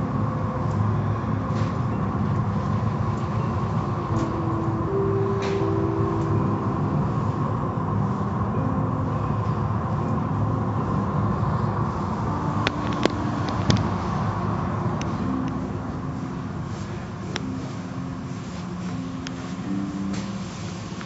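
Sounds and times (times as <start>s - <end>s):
car wash machinery rumbling: 0.0s - 21.0s.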